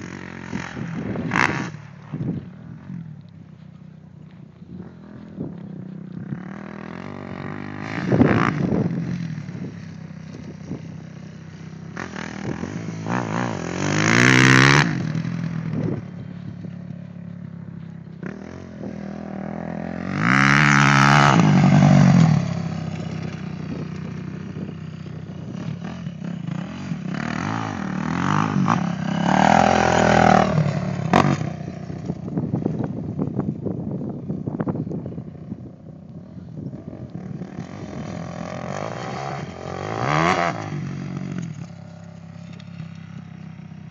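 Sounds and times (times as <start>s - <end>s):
motocross bikes revving: 0.0s - 33.7s, 35.7s - 43.9s
loud motorbike passes: 0.0s - 43.9s.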